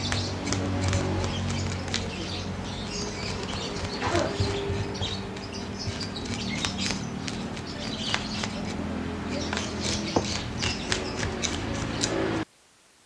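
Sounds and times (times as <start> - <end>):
knife scraping through fish: 0.1 - 12.4.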